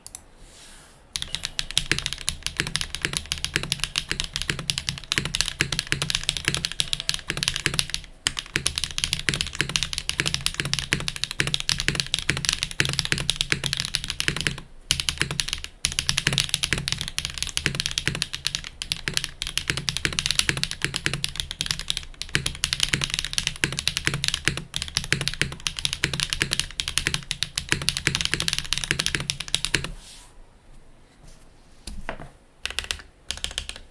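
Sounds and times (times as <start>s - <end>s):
fast mechanical keyboard typing: 1.2s - 29.9s, 32.6s - 33.9s.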